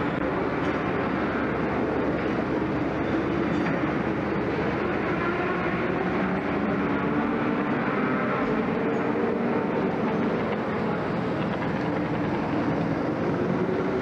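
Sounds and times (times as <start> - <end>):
kart engines droning: 0.0 - 14.0.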